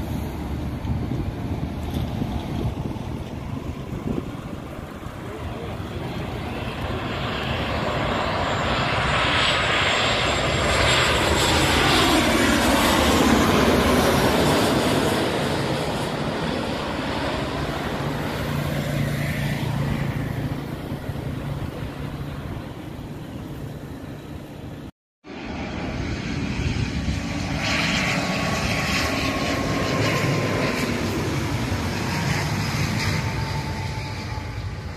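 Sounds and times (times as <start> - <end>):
jet airliner passing overhead: 0.0 - 34.9.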